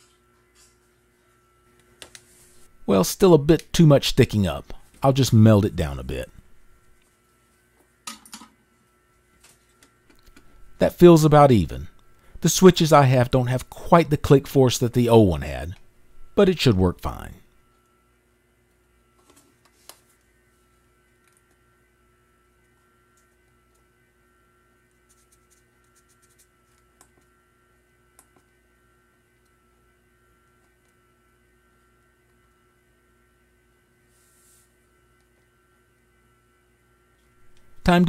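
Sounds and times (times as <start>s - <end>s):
faint electrical hum: 0.0s - 38.0s.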